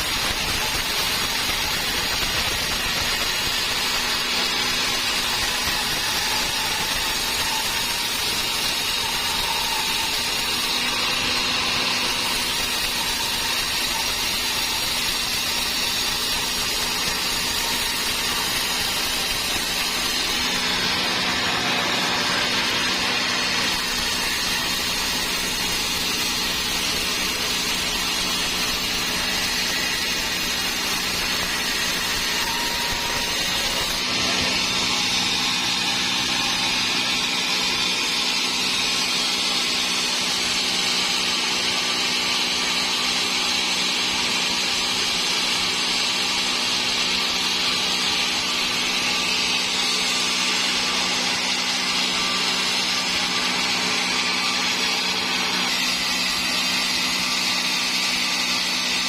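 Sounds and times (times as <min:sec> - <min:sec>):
saw cutting through log: 0:00.0 - 0:59.0.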